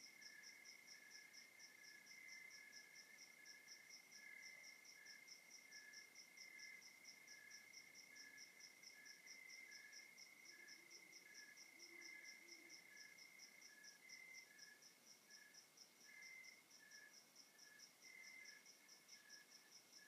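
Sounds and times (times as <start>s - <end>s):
high cricket chirp: 0.0s - 20.0s
low insect trill: 0.0s - 20.0s.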